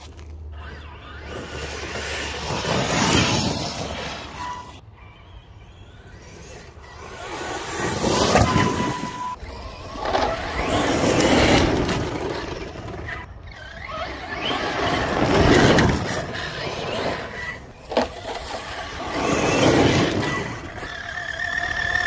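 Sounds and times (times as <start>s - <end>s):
rc truck motors: 0.0s - 22.0s.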